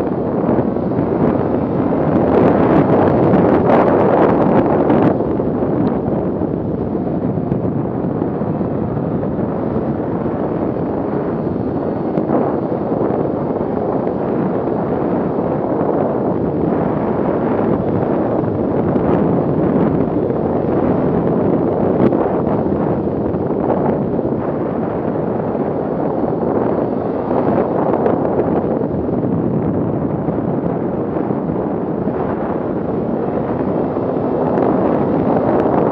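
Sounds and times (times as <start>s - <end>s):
wind rush on microphone: 0.0s - 35.9s.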